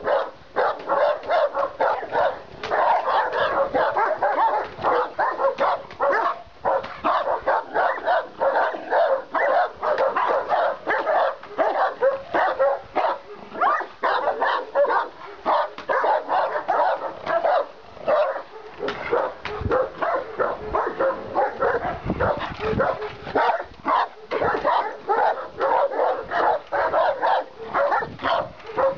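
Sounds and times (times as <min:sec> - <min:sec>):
dogs barking rapidly: 0:00.0 - 0:28.9.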